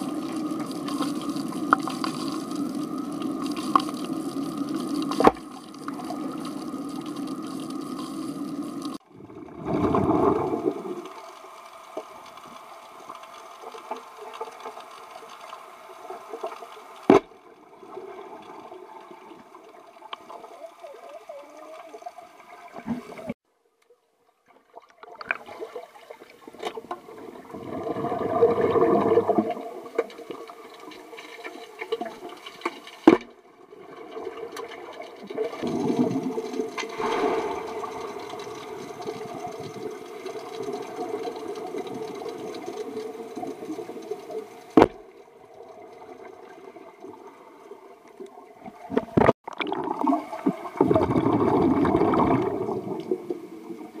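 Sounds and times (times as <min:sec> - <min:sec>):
rushing bubbles: 0:00.0 - 0:15.3, 0:24.6 - 0:32.6, 0:33.6 - 0:54.0
muffled underwater water wash: 0:00.0 - 0:23.4, 0:24.6 - 0:54.0.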